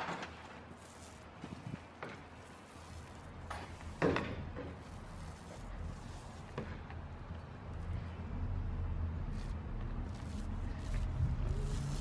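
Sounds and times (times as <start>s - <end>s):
paint roller rolling on wood: 0.0s - 7.5s, 9.2s - 12.0s.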